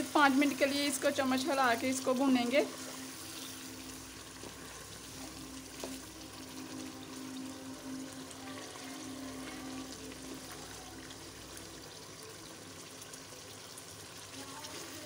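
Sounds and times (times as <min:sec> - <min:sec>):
gravy sizzling and bubbling: 0:00.0 - 0:15.0.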